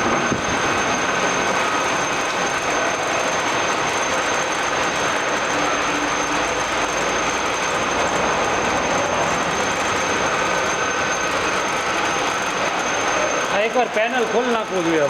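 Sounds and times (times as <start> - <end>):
drilling machine running: 0.0 - 15.0.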